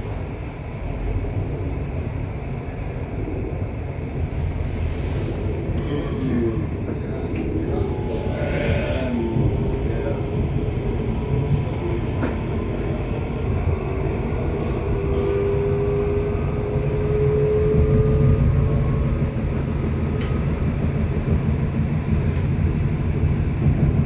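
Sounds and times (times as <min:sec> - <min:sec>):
train wheels rumbling on rails: 0:00.0 - 0:24.0
train whine: 0:00.0 - 0:24.0.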